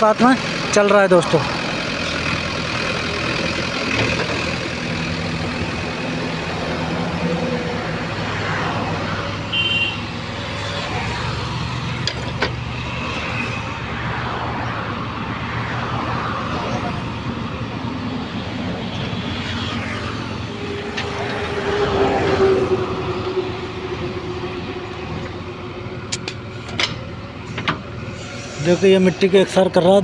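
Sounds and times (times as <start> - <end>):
diesel engine running: 0.0 - 30.0
highway traffic passing: 0.0 - 30.0.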